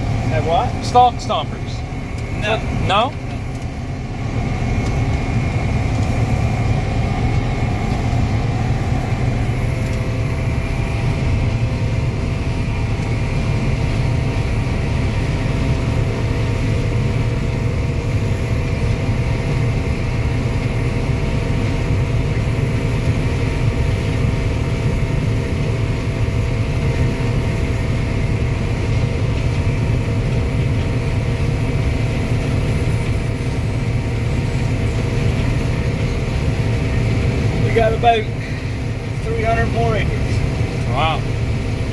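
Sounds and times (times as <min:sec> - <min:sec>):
machinery whining tones: 0:00.0 - 0:20.9, 0:22.2 - 0:41.9
combine harvester running: 0:00.0 - 0:41.9.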